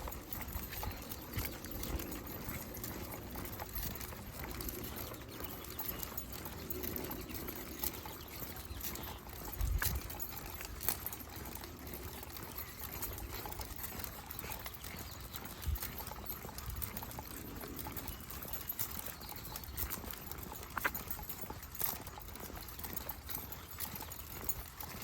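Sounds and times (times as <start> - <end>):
footsteps of walker and dogs: 0.0 - 25.0.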